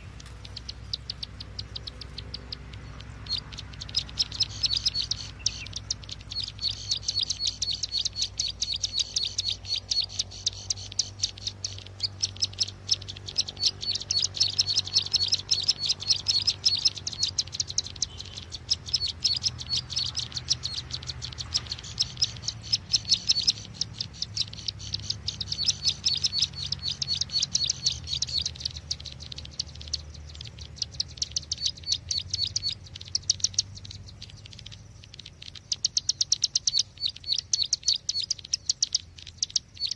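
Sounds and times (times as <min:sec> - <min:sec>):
bird chirping rapidly: 0:00.0 - 0:39.9
faint low hum: 0:00.0 - 0:39.9.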